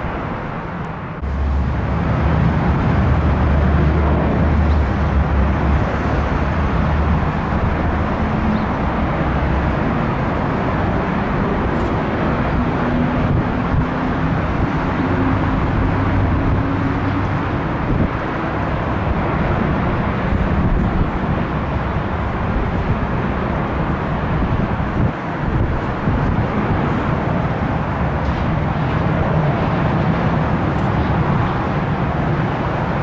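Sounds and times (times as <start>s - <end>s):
jet airliner engines rumbling: 0.0s - 33.0s.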